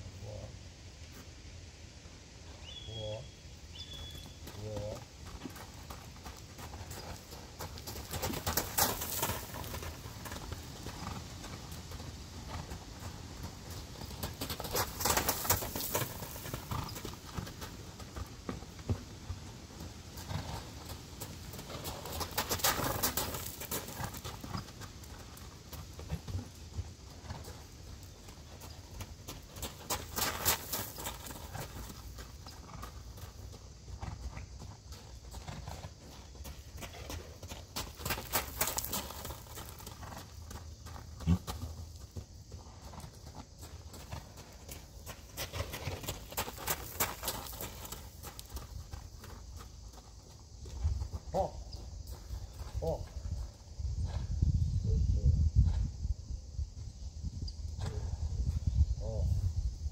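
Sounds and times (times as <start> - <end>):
horse hooves on gravel: 3.8 - 54.4.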